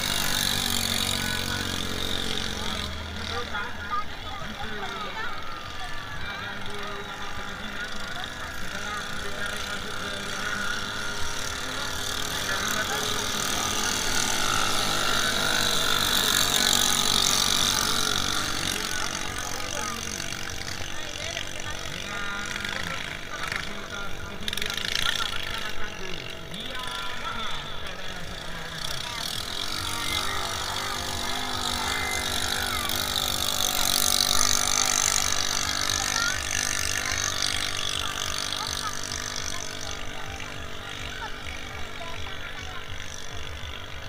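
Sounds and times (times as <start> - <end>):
boat engines whining at high revs: 0.0 - 44.0.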